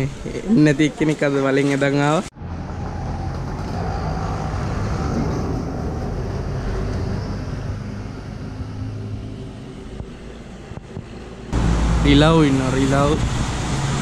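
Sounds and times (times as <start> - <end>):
wind and road rush: 1.8 - 14.0.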